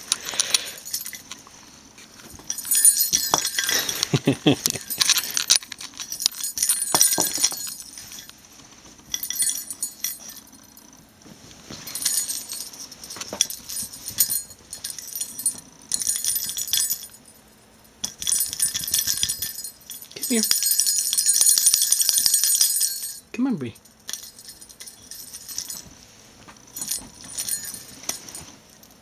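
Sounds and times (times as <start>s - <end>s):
toy bell jingling and rattling: 0.2s - 1.4s, 2.2s - 8.4s, 9.1s - 11.0s, 11.8s - 25.9s, 26.6s - 29.0s.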